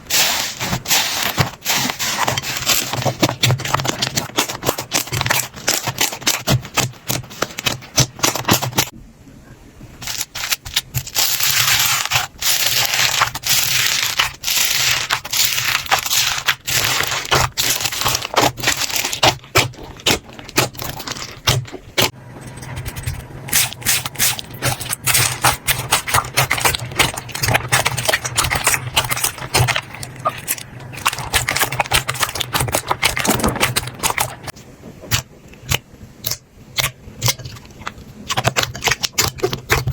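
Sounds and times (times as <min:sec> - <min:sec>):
hands squishing slime: 0:00.0 - 0:08.9, 0:10.0 - 0:39.9.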